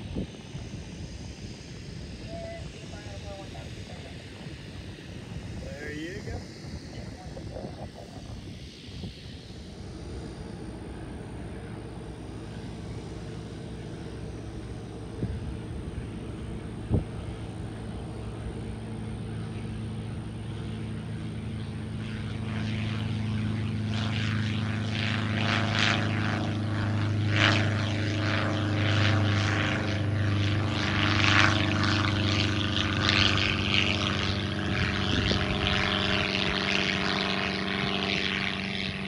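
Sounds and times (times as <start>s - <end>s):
light aircraft engine running: 0.0s - 39.0s
propeller and air rushing: 0.0s - 39.0s.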